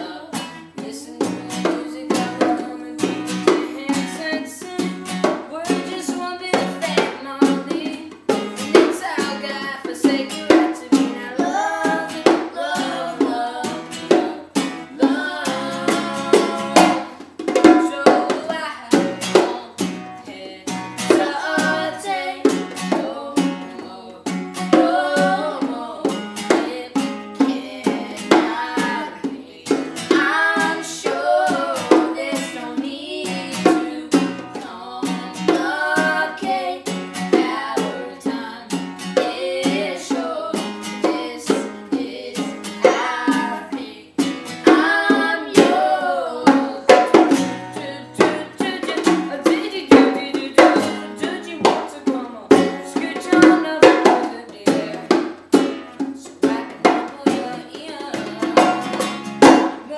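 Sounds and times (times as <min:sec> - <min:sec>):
person singing: 0:00.0 - 0:59.9.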